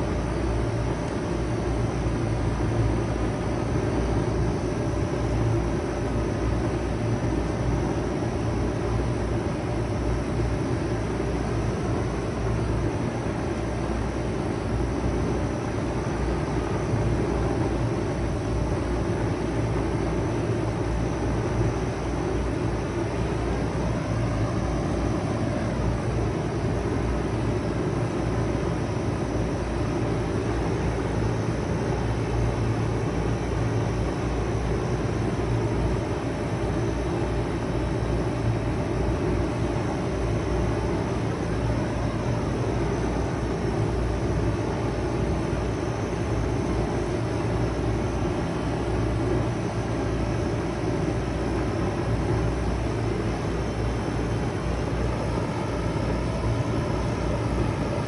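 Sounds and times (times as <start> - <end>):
compressor low hum: 0.0 - 58.0
fan whooshing air: 0.0 - 58.0.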